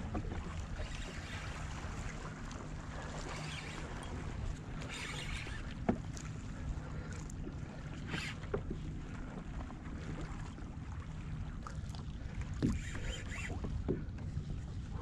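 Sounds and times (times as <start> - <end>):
water lapping around kayak: 0.0 - 15.0.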